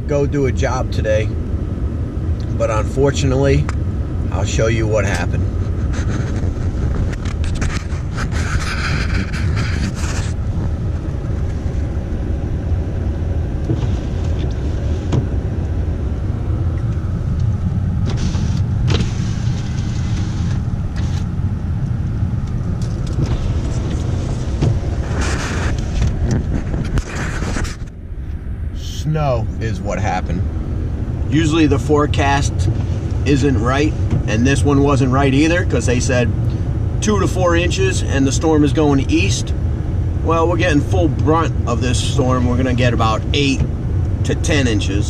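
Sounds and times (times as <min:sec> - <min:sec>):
truck engine rumble: 0:00.0 - 0:45.0.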